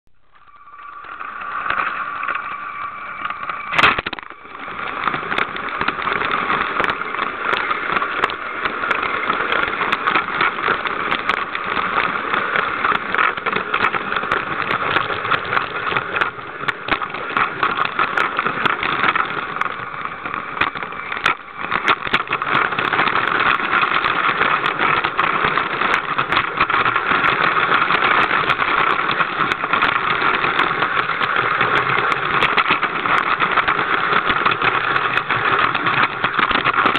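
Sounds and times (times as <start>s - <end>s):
clatter of wheels on plastic track: 0.3s - 36.9s
toy train electric motor running: 0.3s - 36.9s.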